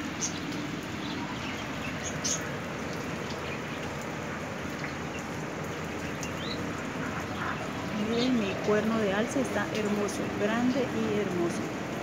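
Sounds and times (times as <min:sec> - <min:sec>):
rain falling on leaves: 0:00.0 - 0:12.0.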